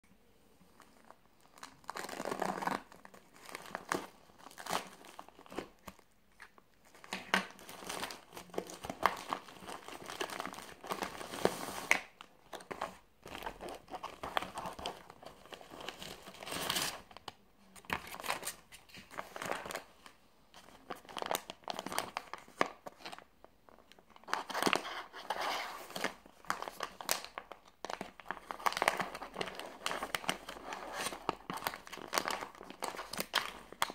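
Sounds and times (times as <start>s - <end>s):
plastic and paper packaging crinkling: 0.6s - 33.9s.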